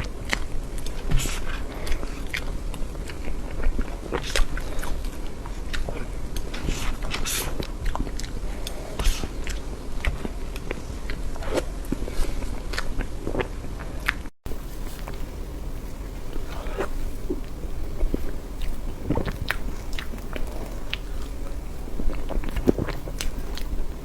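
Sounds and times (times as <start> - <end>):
wet chewing of soft cake: 0.0 - 24.0.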